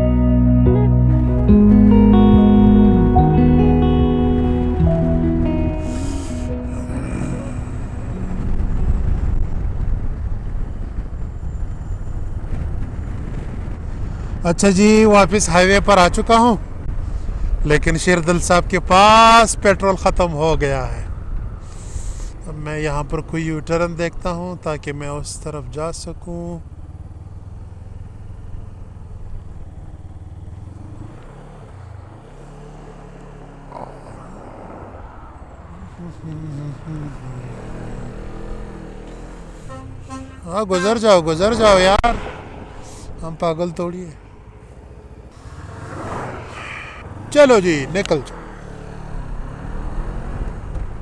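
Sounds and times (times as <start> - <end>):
motorcycle engine: 0.0 - 51.0.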